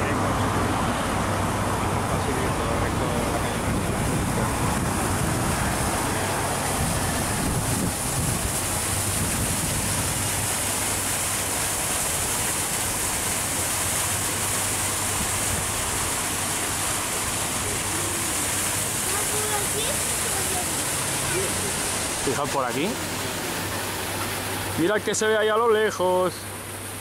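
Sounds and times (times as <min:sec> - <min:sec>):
high hissy rushing noise: 0:00.0 - 0:27.0.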